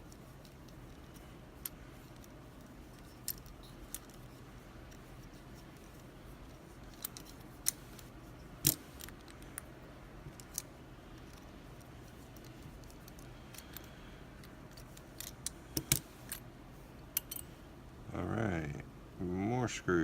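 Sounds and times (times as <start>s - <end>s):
metallic lock parts clinking: 0.0s - 9.7s, 10.3s - 16.5s, 17.1s - 17.6s
faint steady hum: 0.0s - 20.0s.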